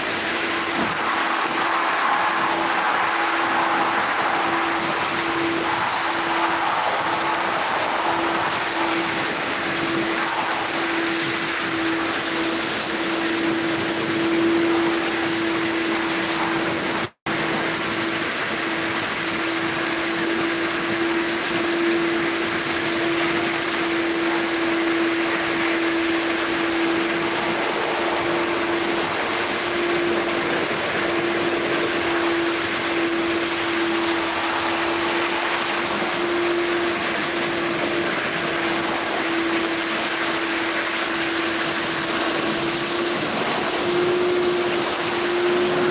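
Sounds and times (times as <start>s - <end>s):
motor humming with steady tone: 0.0s - 45.9s.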